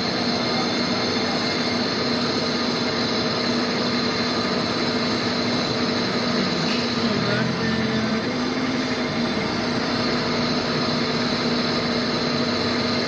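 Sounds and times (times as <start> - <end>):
lathe humming: 0.0 - 13.0.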